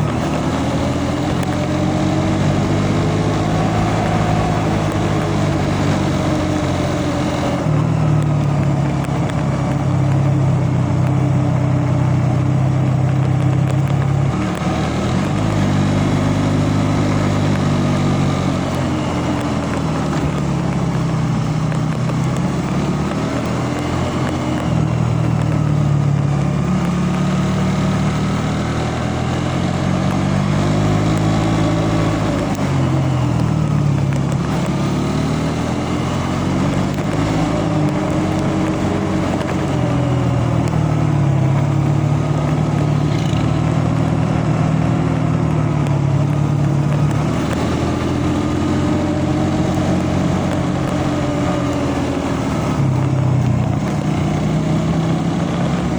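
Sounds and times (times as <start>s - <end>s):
vehicle engine revving: 0.0s - 55.9s.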